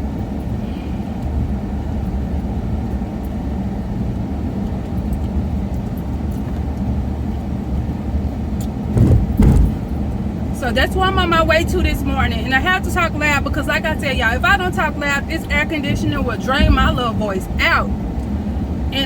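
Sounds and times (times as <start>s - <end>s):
air conditioner blowing: 0.0s - 19.0s
engine and road hum: 0.0s - 19.0s.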